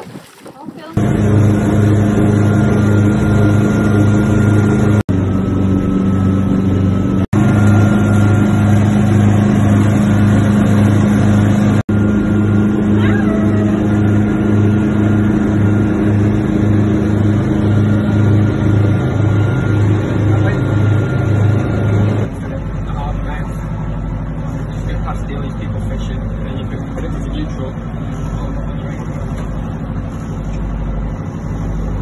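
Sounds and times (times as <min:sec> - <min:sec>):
motorboat engine droning: 0:00.0 - 0:32.0.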